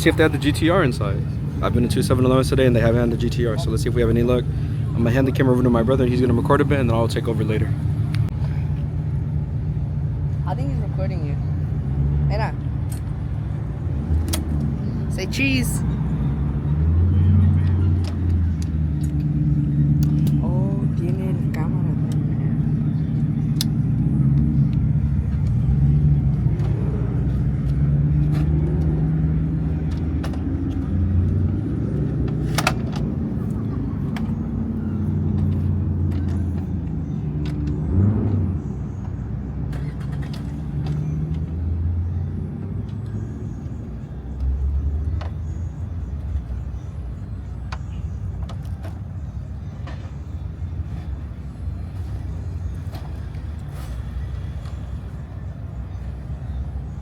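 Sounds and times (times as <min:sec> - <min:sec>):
car engines rumbling: 0:00.0 - 0:57.0.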